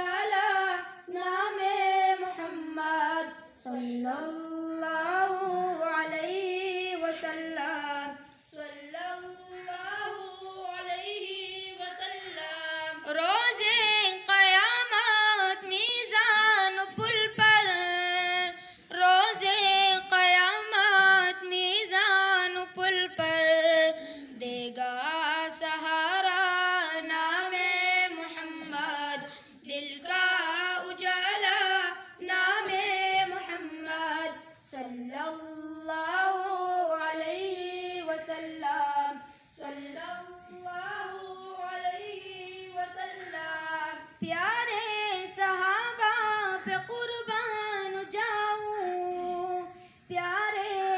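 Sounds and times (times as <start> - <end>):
boys singing into a microphone: 0.0 - 50.9.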